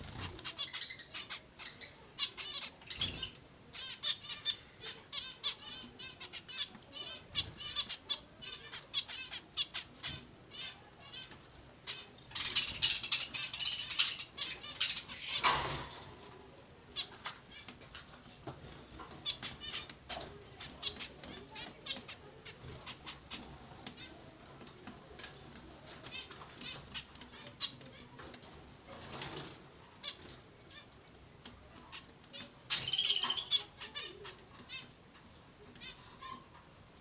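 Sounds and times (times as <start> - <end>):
finch chicks chirping: 0.0 - 37.0.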